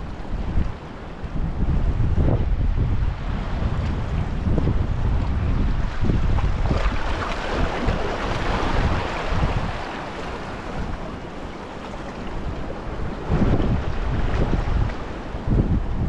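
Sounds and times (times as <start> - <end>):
waves rushing: 0.0 - 16.0
wind buffeting microphone: 0.0 - 16.0.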